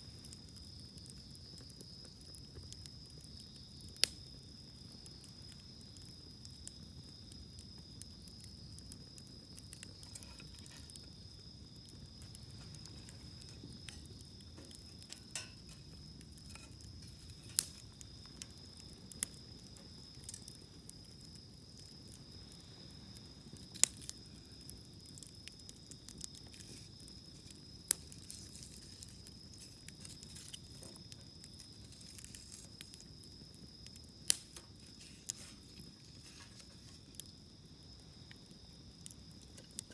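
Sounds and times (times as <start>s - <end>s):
campfire crackling: 0.0s - 39.9s
firewood popping: 0.1s - 39.9s.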